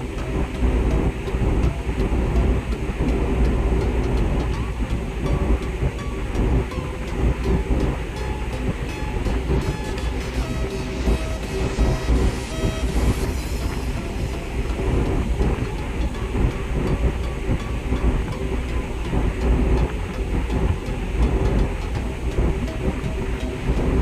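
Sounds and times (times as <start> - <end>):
held tones: 0.0 - 24.0
low mechanical rumble: 0.0 - 24.0.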